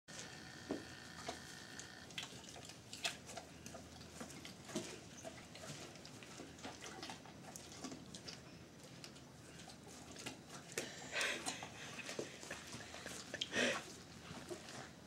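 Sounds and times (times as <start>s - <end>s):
horse chewing apple crunches: 0.1s - 15.0s.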